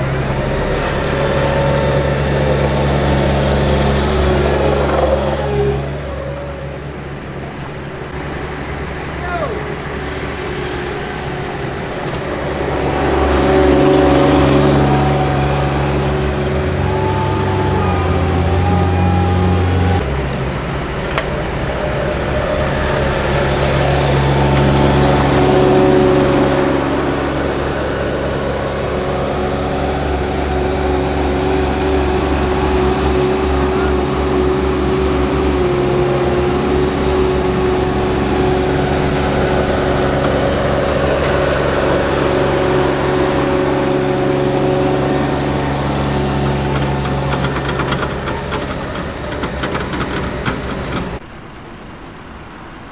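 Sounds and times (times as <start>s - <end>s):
diesel engines of paving machinery: 0.0s - 52.9s.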